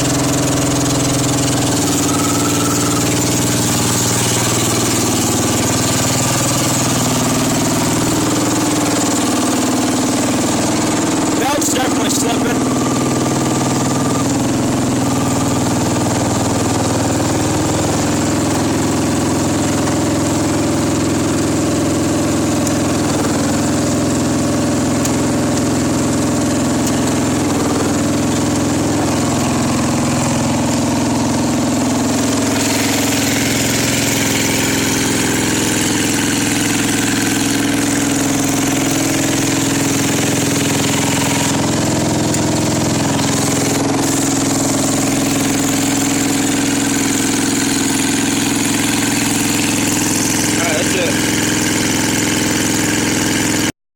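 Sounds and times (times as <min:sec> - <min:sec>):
engine idling: 0:00.0 - 0:53.7.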